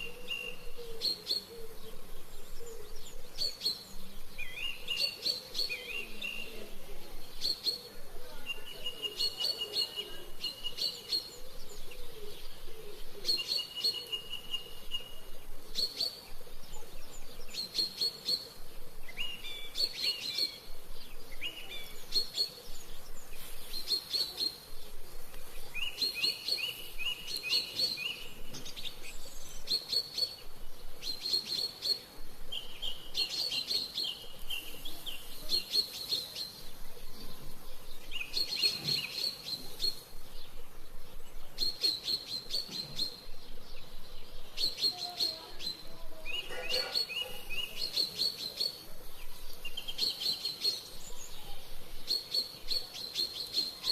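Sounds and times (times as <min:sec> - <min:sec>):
songbird chirping: 0:00.0 - 0:53.9.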